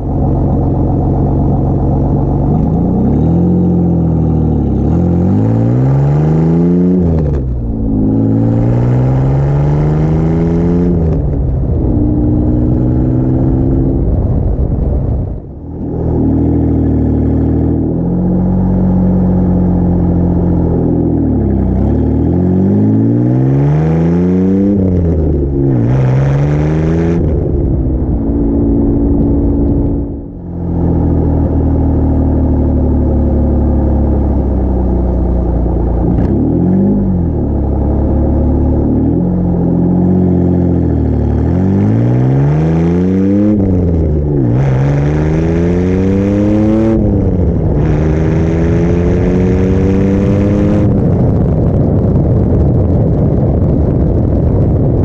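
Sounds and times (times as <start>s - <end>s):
car exhaust accelerating: 0.0s - 55.0s.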